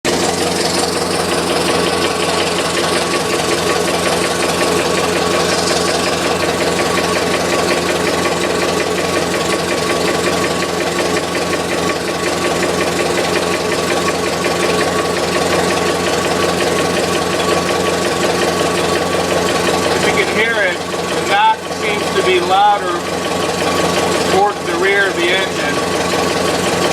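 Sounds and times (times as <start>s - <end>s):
car engine idling: 0.0s - 26.9s
engine knock ticking: 0.1s - 26.9s.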